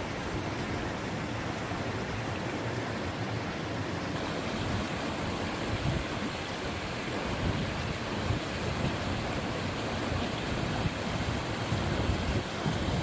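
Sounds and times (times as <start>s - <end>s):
waterfall pouring and splashing: 0.0s - 13.0s.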